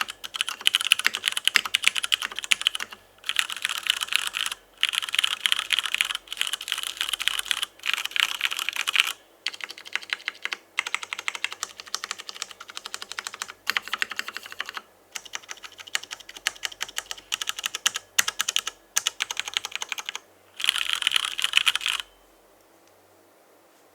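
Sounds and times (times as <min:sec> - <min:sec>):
typing on mechanical keyboard: 0:00.0 - 0:22.1.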